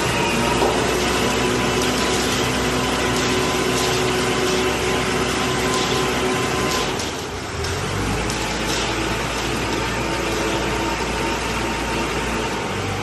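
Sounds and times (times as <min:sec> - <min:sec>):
concrete mixer running: 0:00.0 - 0:13.0
machine whine: 0:00.0 - 0:13.0.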